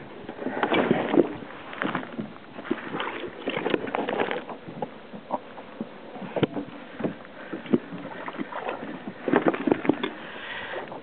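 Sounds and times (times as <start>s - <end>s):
water splashes: 0.0s - 11.0s.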